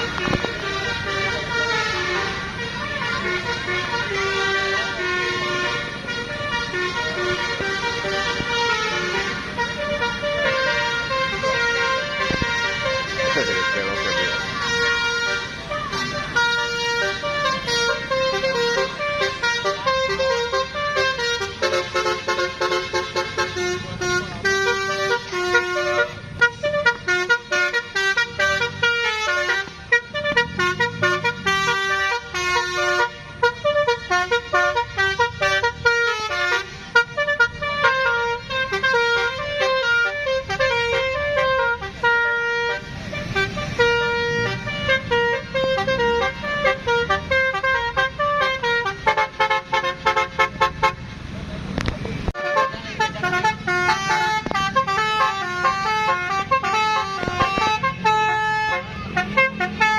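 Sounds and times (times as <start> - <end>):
bus musical air horn: 0.0 - 51.2, 52.4 - 59.9.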